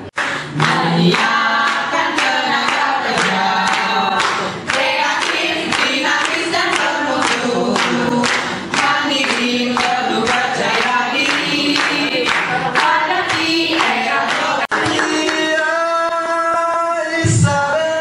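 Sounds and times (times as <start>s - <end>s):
group singing: 0.0s - 18.0s
hands clapping in time: 0.1s - 16.2s.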